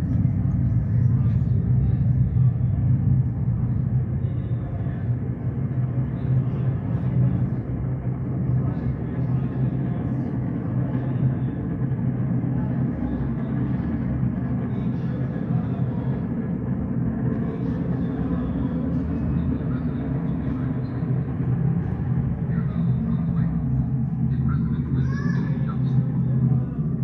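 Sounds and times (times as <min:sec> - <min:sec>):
constant hum: 0:00.0 - 0:27.0
low rumble: 0:00.0 - 0:27.0.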